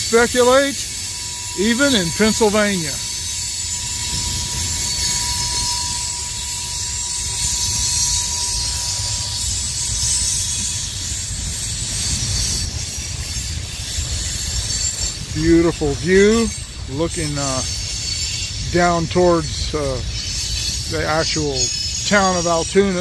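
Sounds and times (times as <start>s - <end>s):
distant freight train rumbling: 0.0s - 23.0s
thin high tone: 0.0s - 23.0s.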